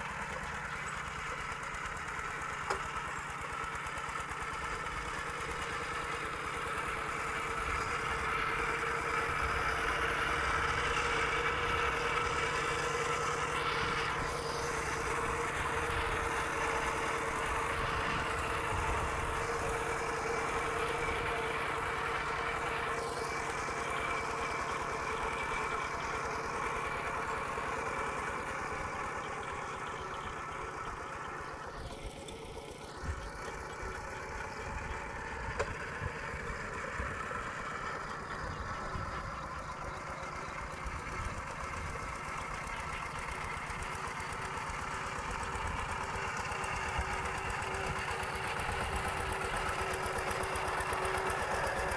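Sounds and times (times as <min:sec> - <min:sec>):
diesel engine chugging: 0:00.0 - 0:51.9.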